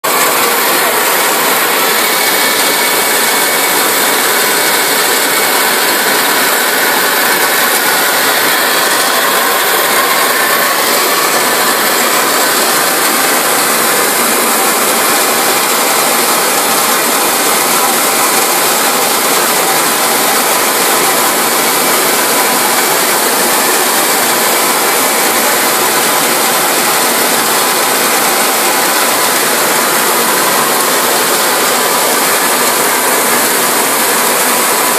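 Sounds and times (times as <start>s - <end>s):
hissing water jets: 0.0s - 34.9s.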